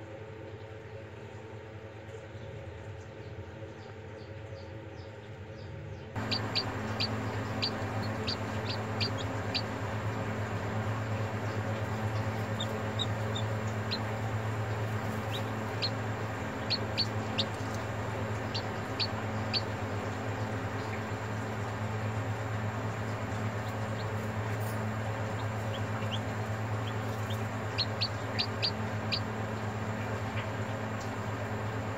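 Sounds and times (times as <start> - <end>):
steady low hum: 0.0 - 31.9
chicks peeping: 6.2 - 31.9.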